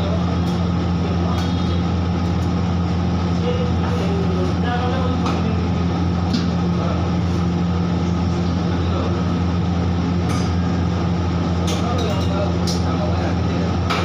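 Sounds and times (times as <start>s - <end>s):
wok stove flame roaring: 0.0s - 14.0s.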